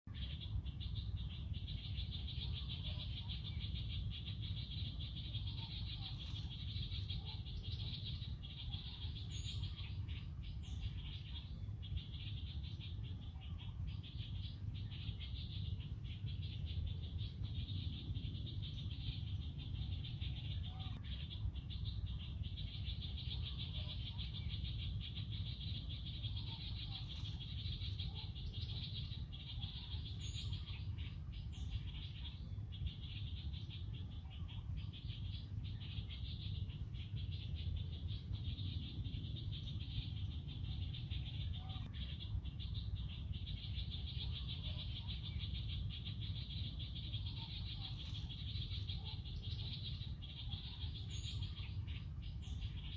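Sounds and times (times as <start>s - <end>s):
bird chirps: 0.1s - 52.9s.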